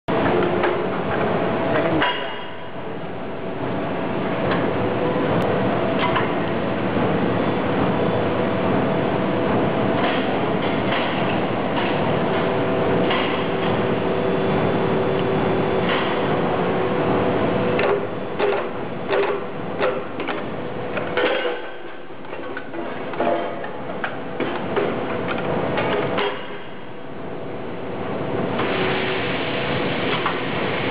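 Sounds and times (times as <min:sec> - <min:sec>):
casting machine humming: 0:00.1 - 0:30.9.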